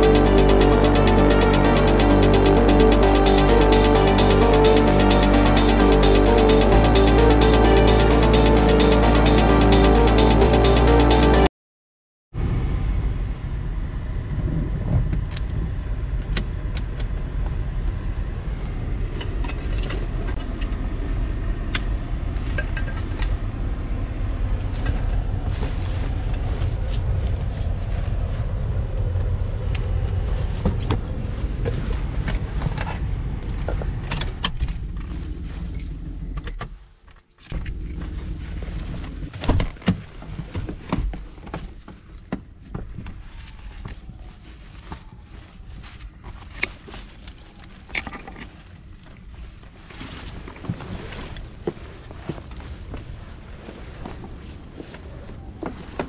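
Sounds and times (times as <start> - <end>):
traffic rumble: 0.0 - 11.5, 12.4 - 56.0.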